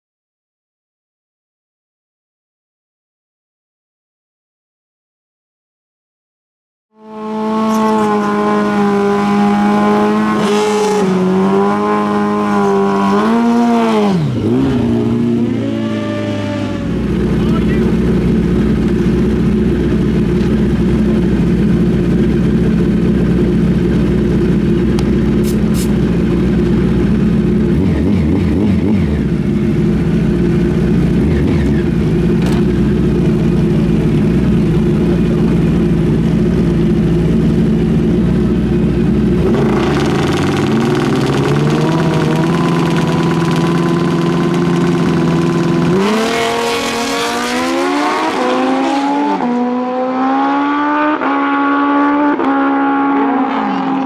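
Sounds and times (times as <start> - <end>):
motorcycle engines revving: 7.0 - 54.0.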